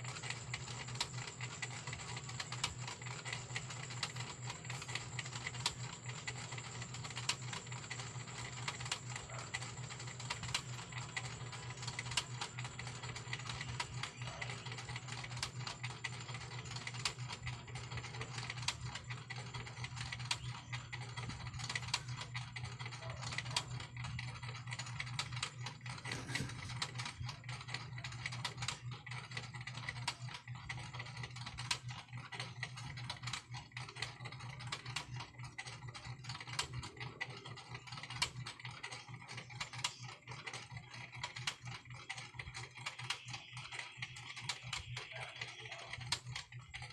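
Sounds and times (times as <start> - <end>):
steady low hum: 0.0 - 38.1.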